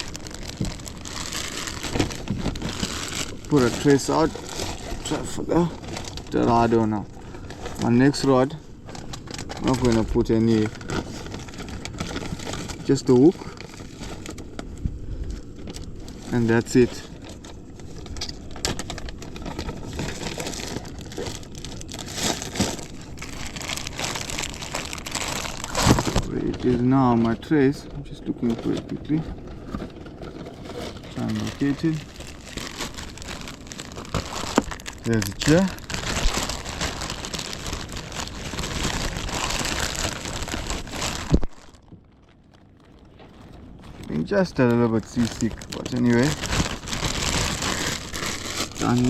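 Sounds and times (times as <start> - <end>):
rustling and crinkling: 0.0 - 49.0.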